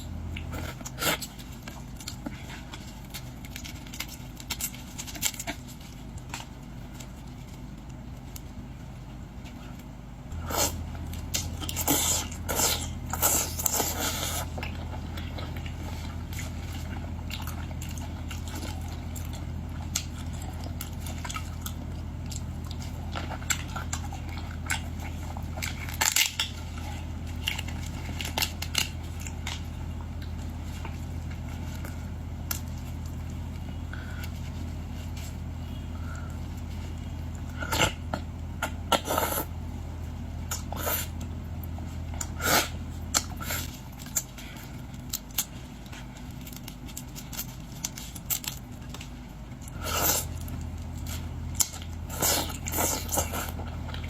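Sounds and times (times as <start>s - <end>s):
shellfish cracking and chewing: 0.0s - 8.7s, 9.8s - 34.6s, 40.3s - 54.0s
steady low hum: 0.0s - 54.0s.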